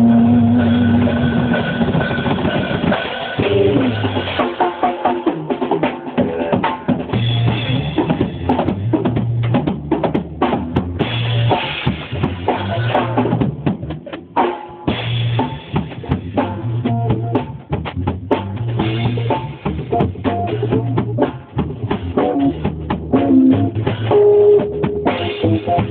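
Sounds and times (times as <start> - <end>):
bass line: 0.0 - 4.5, 6.2 - 25.9
drum kit: 0.0 - 25.9.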